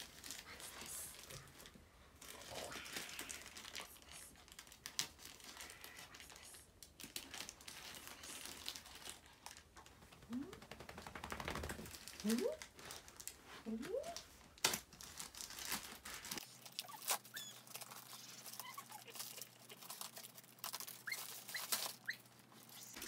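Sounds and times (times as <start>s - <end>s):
plastic mailer bag crinkling: 0.0s - 10.0s, 11.7s - 13.4s, 14.0s - 23.0s.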